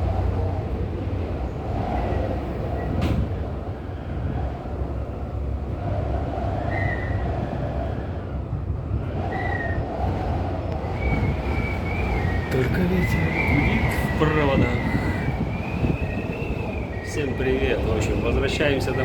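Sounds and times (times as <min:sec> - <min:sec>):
gondola rolling rumble: 0:00.0 - 0:19.0
wind: 0:00.0 - 0:19.0.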